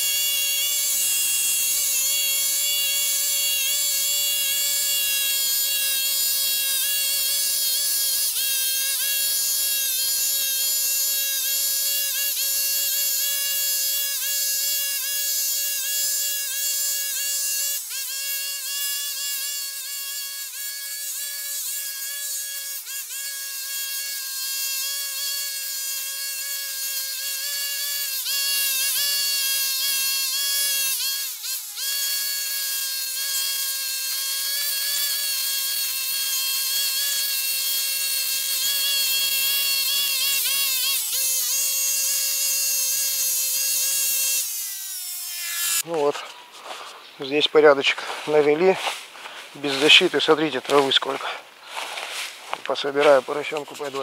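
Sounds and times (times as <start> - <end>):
string trimmer engine whine: 0.0 - 54.0.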